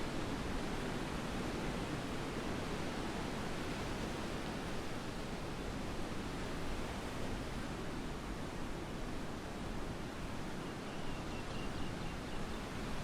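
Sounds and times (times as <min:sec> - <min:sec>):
sea surf on a sandy beach: 0:00.0 - 0:13.0.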